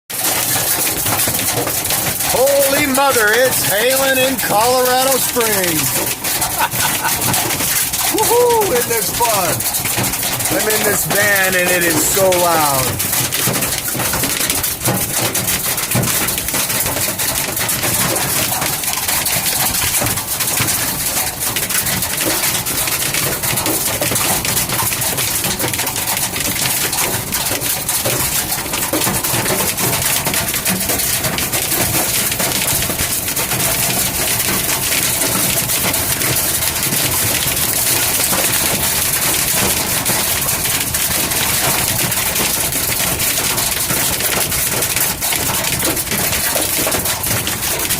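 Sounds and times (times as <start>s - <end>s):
hail pounding a metal roof: 0.1s - 47.9s.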